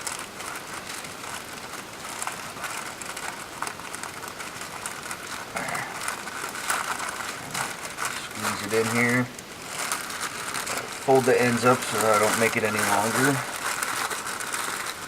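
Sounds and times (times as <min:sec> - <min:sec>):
wax paper crinkling: 0:00.0 - 0:15.0.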